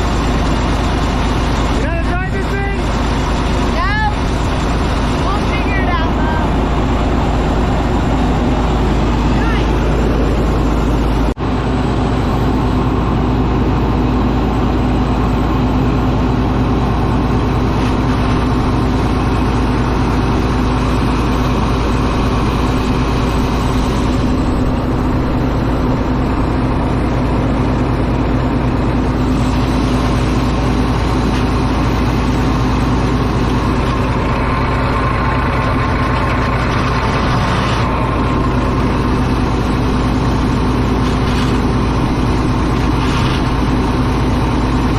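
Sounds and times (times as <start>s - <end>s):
bulldozer engine idling: 0.0s - 44.9s.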